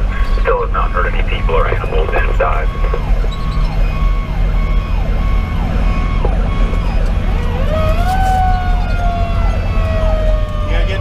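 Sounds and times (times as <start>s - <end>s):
diesel engine running: 0.0s - 11.0s
electronic siren sweeps: 0.8s - 11.0s.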